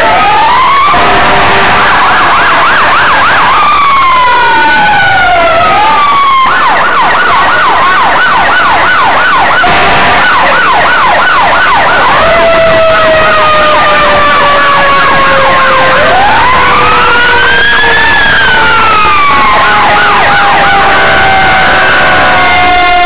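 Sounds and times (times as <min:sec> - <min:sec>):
siren wailing: 0:00.0 - 0:23.0
siren yelp warble: 0:00.0 - 0:23.0.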